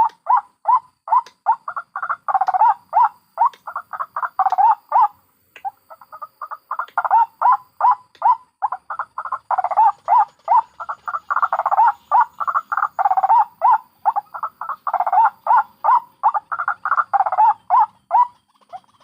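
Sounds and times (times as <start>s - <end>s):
waterhens cackling calls: 0.0s - 19.0s.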